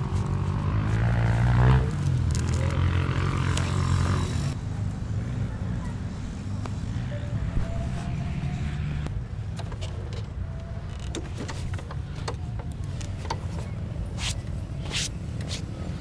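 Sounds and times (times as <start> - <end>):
quad engine rumbling: 0.0 - 16.0.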